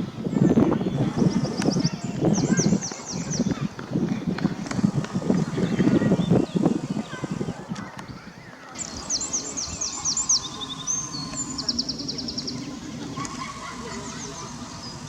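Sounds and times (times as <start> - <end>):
outdoor background noise: 0.0 - 15.0
small songbird singing: 0.1 - 15.0.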